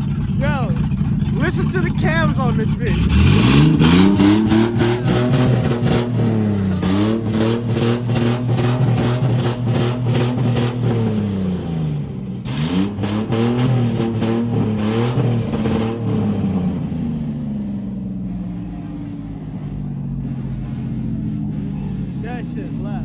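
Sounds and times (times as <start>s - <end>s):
car engine idling with choppy lope: 0.0s - 23.0s.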